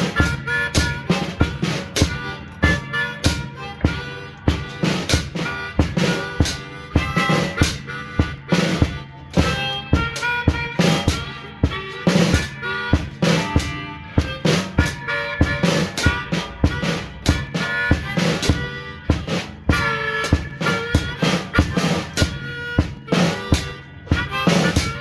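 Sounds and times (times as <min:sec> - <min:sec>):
blues harmonica: 0:00.0 - 0:25.0
drum kit beat: 0:00.0 - 0:25.0.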